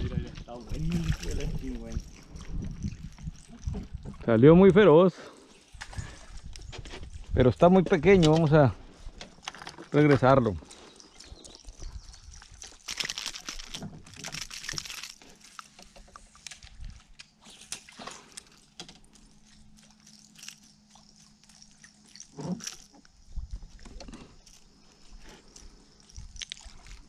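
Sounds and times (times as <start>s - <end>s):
fishing tackle clicks and rustles: 0.0s - 27.0s.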